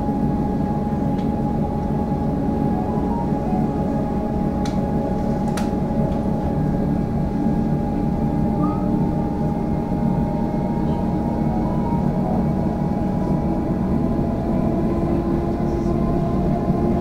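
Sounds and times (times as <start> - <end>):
constant whine: 0.0 - 17.0
train wheels rumbling on rail: 0.0 - 17.0.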